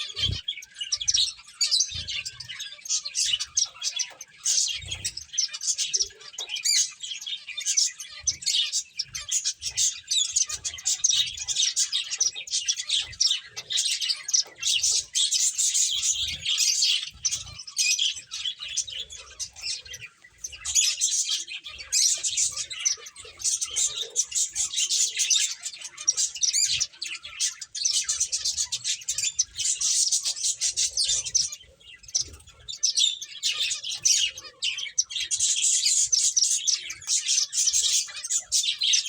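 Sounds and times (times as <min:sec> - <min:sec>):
finches chirping: 0:00.0 - 0:39.0.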